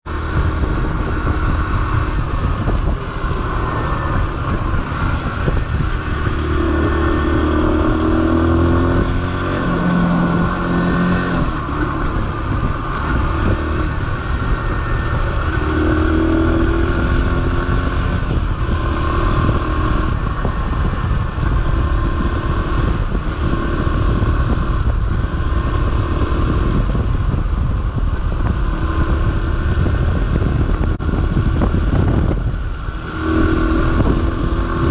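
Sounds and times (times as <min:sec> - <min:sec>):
motorcycle engine running: 0:00.0 - 0:34.9
wind noise on microphone: 0:00.0 - 0:34.9.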